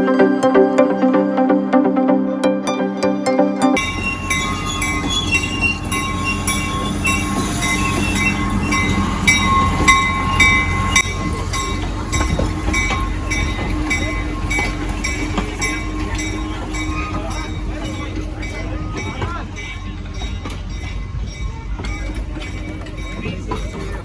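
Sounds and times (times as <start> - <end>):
rail joint clicks: 3.8 - 24.0
railroad car rumbling on track: 3.8 - 24.0
train wheels squealing: 3.8 - 24.0.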